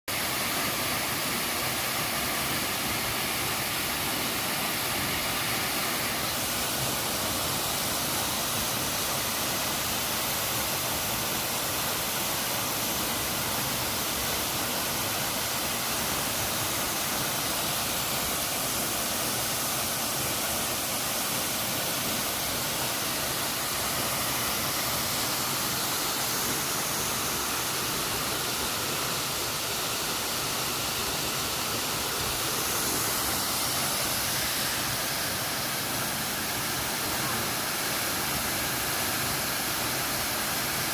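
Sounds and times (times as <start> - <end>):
waterfall roaring: 0.1 - 40.9.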